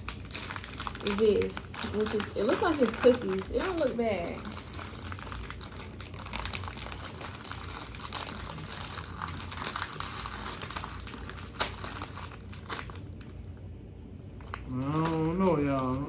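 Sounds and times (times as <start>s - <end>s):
plastic wrapper crinkling: 0.0s - 13.5s, 14.4s - 16.0s.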